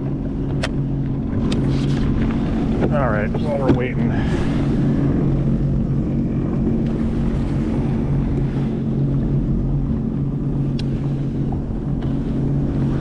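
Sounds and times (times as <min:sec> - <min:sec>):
jet ski engine idling: 0:00.0 - 0:13.0
wind buffeting microphone: 0:00.0 - 0:13.0.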